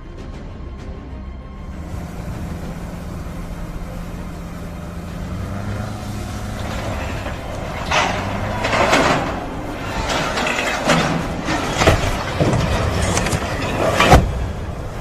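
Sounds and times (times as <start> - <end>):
heavy vehicle engine humming: 1.4 - 15.0.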